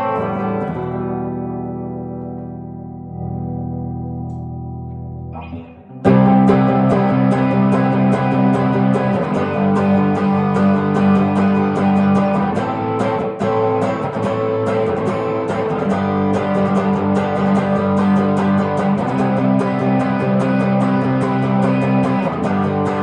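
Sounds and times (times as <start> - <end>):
electric guitar strummed chords: 0.0 - 23.0.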